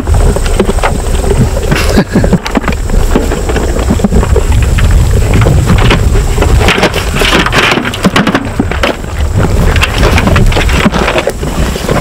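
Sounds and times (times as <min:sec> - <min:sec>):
close rustles and clicks: 0:00.0 - 0:12.0
wind buffeting microphone: 0:00.0 - 0:12.0.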